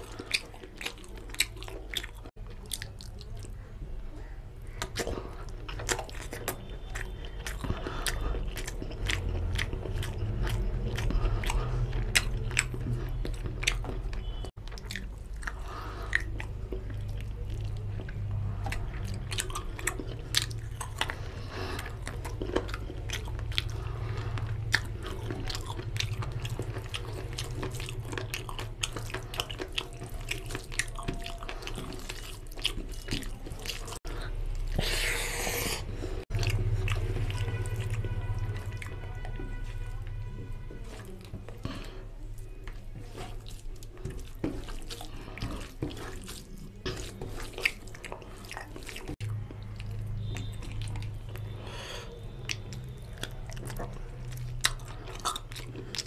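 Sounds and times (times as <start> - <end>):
wet chewing and lip-smacking: 0.0 - 56.0.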